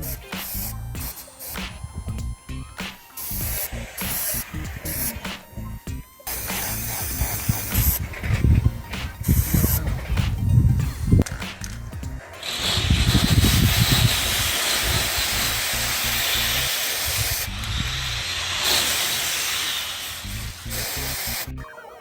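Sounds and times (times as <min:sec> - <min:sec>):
spray paint can hissing: 0:00.0 - 0:21.6
background music: 0:00.0 - 0:22.0.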